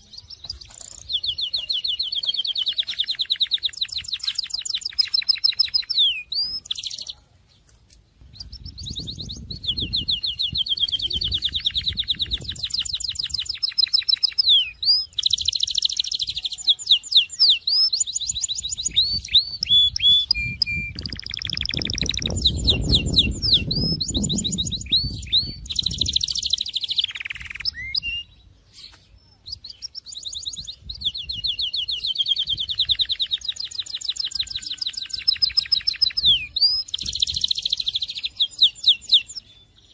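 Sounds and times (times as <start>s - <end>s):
canary singing trills: 0.0s - 7.2s, 8.2s - 39.9s.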